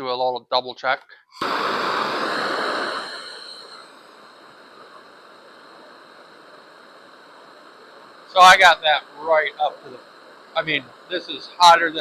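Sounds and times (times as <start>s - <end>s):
hand torch hissing: 1.4s - 12.0s.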